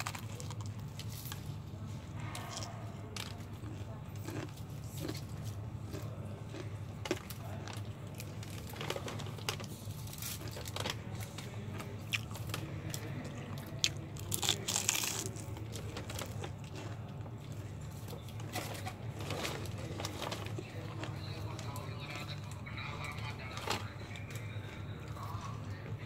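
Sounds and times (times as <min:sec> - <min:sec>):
chewing and crunching fried chicken: 0:00.0 - 0:26.0
steady low hum: 0:00.0 - 0:26.0.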